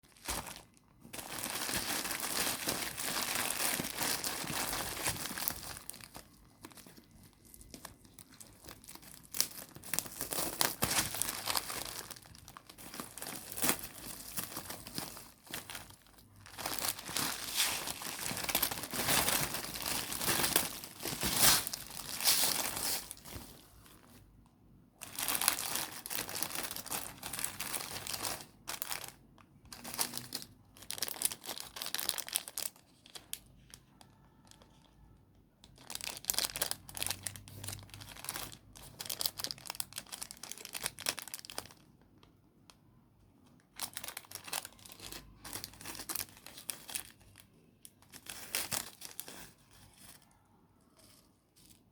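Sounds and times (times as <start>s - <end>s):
packaging crinkling and tearing: 0.0s - 24.1s, 25.0s - 35.0s, 35.6s - 41.9s, 43.7s - 50.4s.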